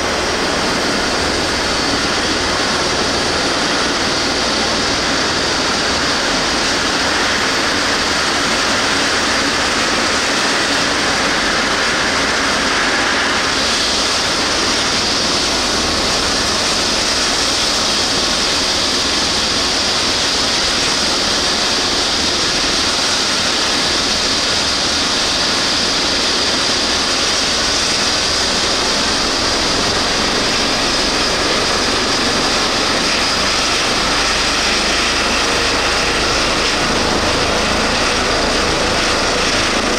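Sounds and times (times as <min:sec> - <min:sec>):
helicopter turbines and rotor whine: 0:00.0 - 0:39.9.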